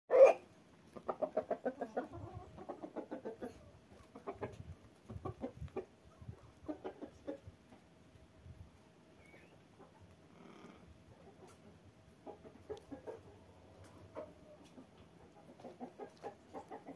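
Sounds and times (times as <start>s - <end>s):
chickens clucking: 0.1s - 8.2s, 8.8s - 16.9s.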